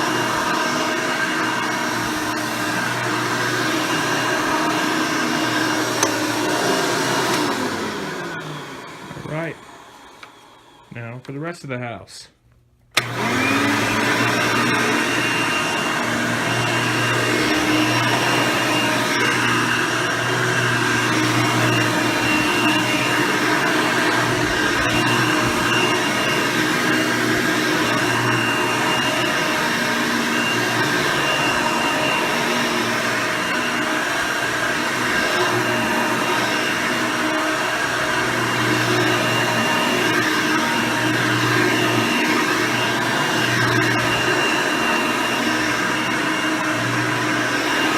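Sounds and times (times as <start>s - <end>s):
vacuum cleaner running: 0.0s - 11.4s, 12.9s - 47.9s.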